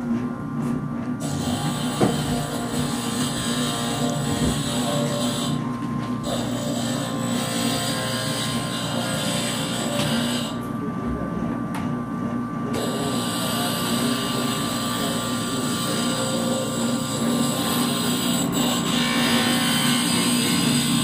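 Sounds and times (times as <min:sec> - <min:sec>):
mechanical drone with high whine: 0:00.0 - 0:21.0.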